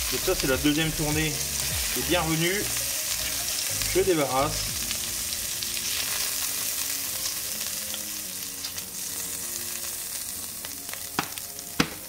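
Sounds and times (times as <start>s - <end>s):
oil sizzling in a pot: 0.0s - 12.0s.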